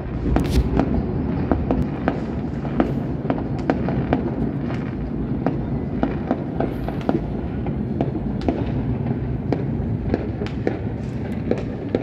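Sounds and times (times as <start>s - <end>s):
firecracker cracks and pops: 0.0s - 12.0s
rumble of firework booms: 0.0s - 12.0s.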